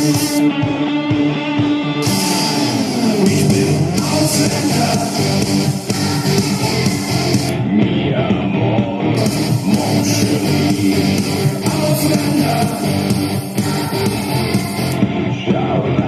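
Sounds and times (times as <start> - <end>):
rock music with guitar: 0.0 - 16.0.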